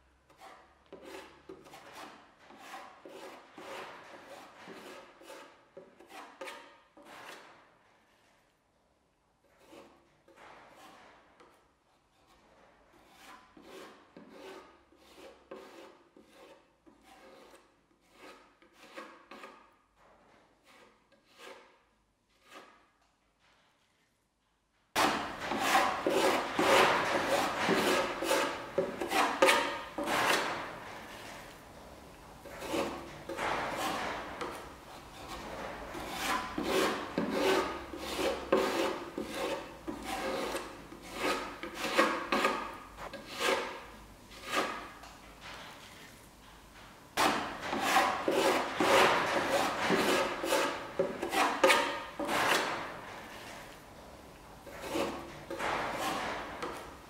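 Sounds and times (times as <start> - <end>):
filling knife scraping wood: 0.3 - 8.4, 9.4 - 11.2, 11.9 - 19.7, 20.6 - 22.9, 25.0 - 31.6, 32.4 - 45.0, 47.2 - 53.8, 54.6 - 57.0.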